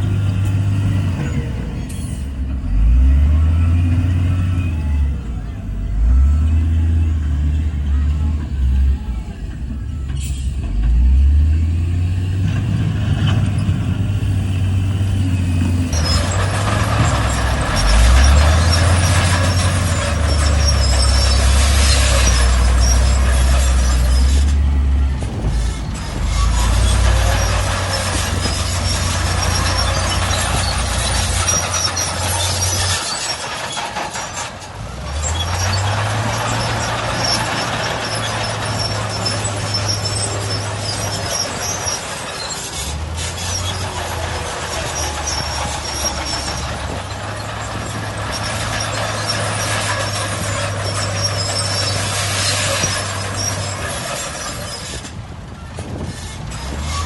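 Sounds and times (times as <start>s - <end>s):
heavy diesel engines revving: 0.0s - 57.0s.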